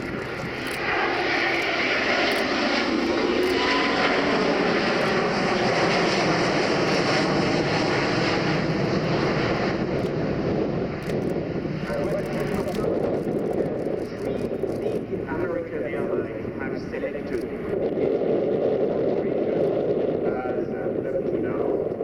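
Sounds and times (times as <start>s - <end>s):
jet airliner flying past: 0.0s - 22.0s.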